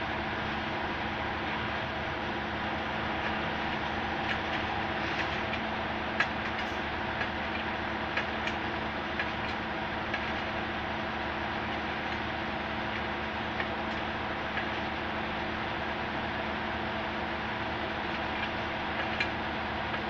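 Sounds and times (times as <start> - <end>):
machinery engine drone: 0.0 - 20.0.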